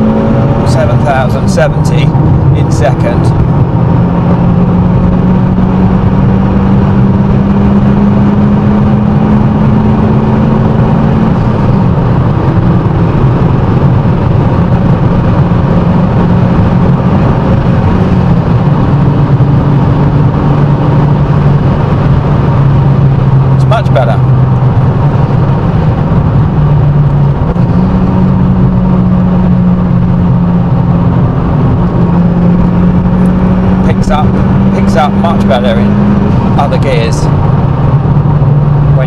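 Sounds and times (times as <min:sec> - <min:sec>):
car engine under way: 0:00.0 - 0:39.0
road noise: 0:00.0 - 0:39.0.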